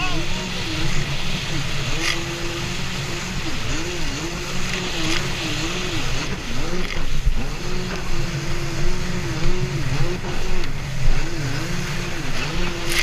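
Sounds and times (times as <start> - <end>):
jet ski engine running: 0.0 - 13.0
rumble of wind and water: 0.0 - 13.0.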